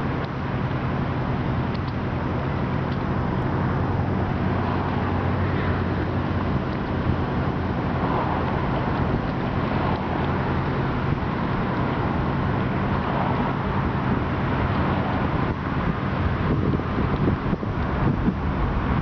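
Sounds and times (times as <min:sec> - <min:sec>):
low motor drone: 0:00.0 - 0:19.0
wind noise on microphone: 0:00.0 - 0:19.0.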